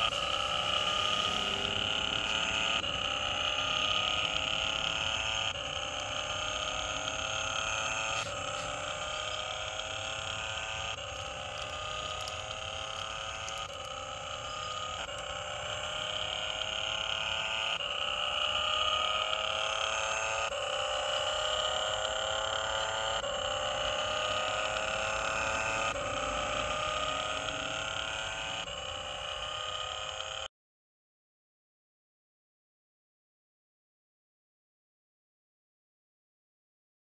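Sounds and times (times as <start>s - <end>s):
looped electronic engine sound: 0.0s - 30.5s.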